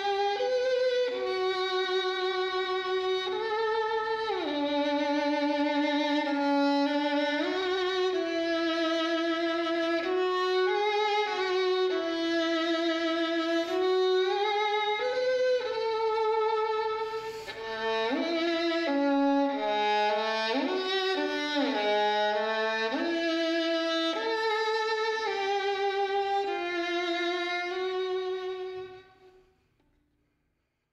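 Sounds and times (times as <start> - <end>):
violin playing slow melody: 0.0 - 29.5.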